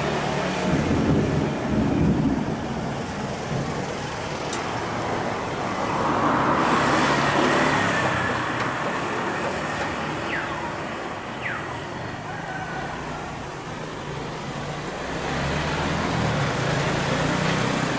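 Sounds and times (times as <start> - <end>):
road traffic: 0.0 - 17.9.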